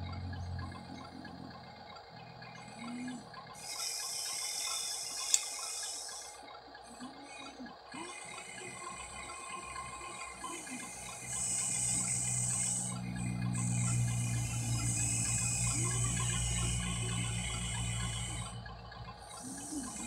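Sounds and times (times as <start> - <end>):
small electric motors running: 0.0 - 20.0.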